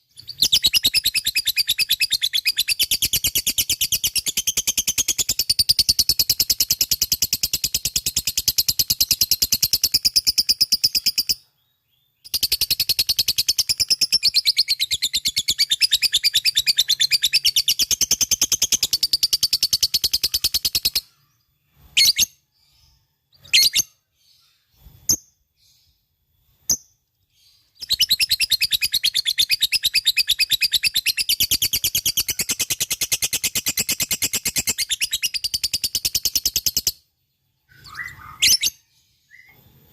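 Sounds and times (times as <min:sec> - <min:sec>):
short bird chirps: 0:00.0 - 0:39.9.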